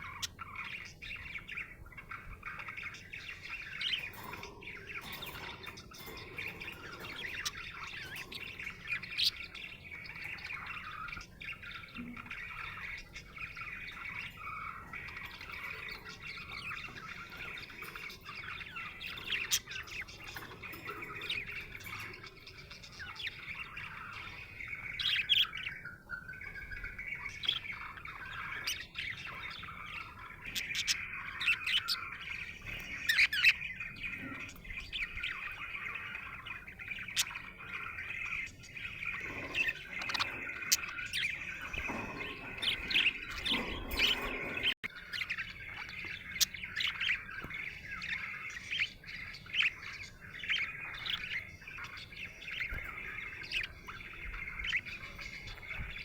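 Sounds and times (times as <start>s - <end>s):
budgerigar chirping: 0.0s - 56.0s.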